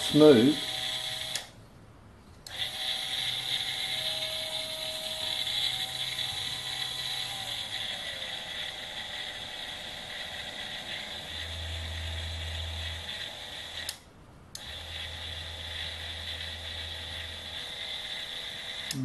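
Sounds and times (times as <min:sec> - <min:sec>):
electric drill whining: 0:00.0 - 0:01.5, 0:02.5 - 0:14.0, 0:14.6 - 0:19.0.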